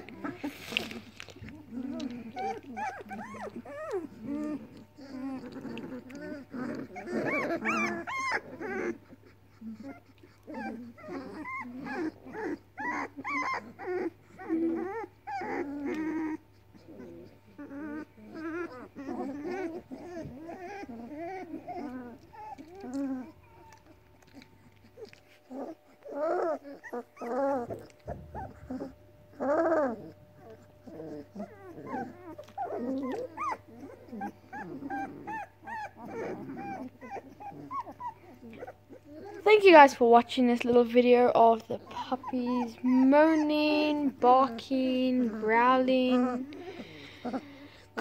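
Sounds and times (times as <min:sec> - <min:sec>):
puppies whimpering: 0:00.0 - 0:48.0.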